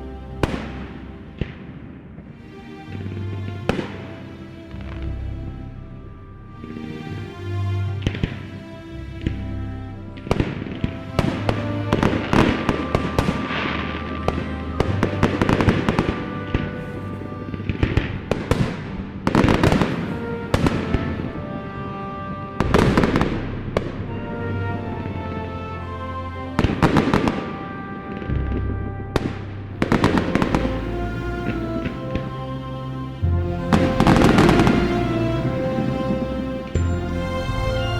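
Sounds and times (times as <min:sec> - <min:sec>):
music with sustained notes: 0:00.0 - 0:37.9.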